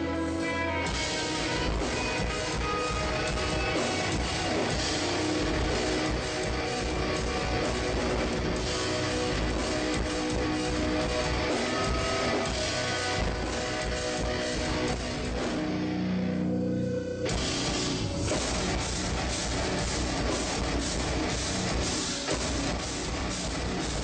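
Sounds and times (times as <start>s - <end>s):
distorted electric guitars: 0.0s - 24.0s
drums: 0.0s - 24.0s.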